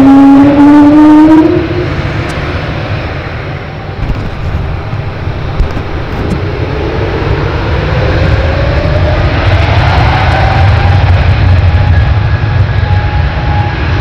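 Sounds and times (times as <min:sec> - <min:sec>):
engine whine rising in pitch: 0:00.0 - 0:14.0
jet engines rumbling: 0:00.0 - 0:14.0.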